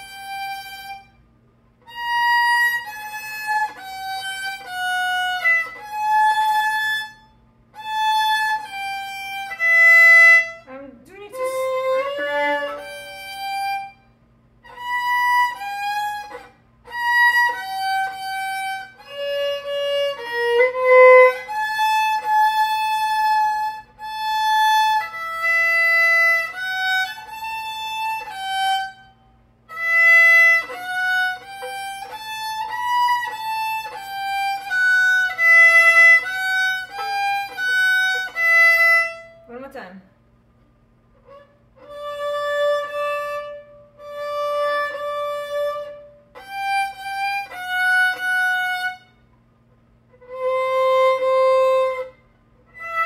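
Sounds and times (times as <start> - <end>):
bowed violin melody: 0.0 - 39.8, 41.2 - 49.3, 50.1 - 53.0.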